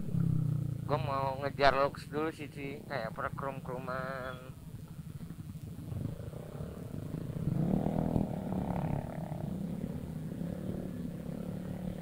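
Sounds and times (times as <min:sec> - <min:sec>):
scooter engine droning: 0:00.0 - 0:12.0.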